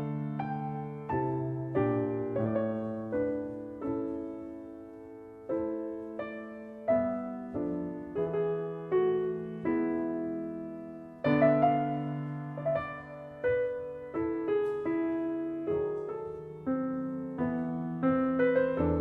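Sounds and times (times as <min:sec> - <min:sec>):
calm solo piano music: 0:00.0 - 0:19.0.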